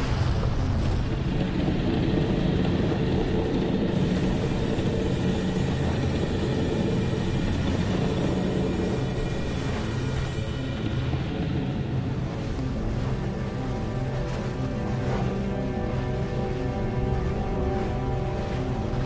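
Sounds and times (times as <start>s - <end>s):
lava lake rumbling: 0.0s - 19.0s.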